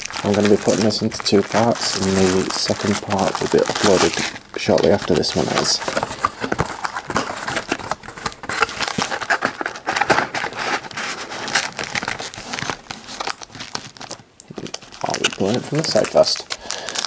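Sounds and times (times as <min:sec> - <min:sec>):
foil wrappers crinkling: 0:00.0 - 0:17.0.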